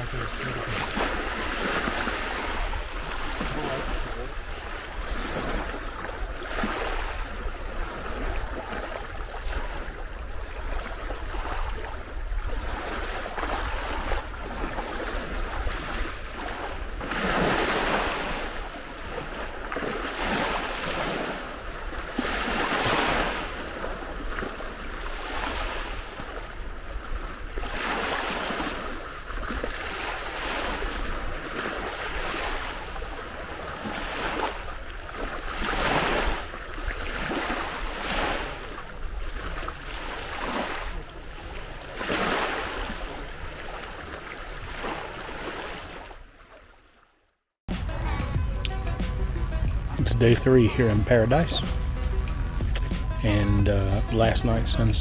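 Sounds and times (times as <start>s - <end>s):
waves breaking on sandy beach: 0.0s - 47.9s, 49.9s - 55.0s.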